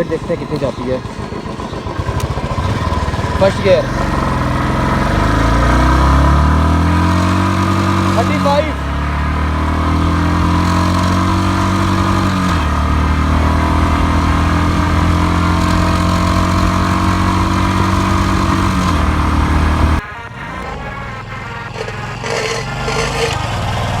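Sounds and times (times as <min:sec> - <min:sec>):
motorcycle engine accelerating: 0:00.0 - 0:24.0
rough rubbing noise: 0:01.8 - 0:24.0.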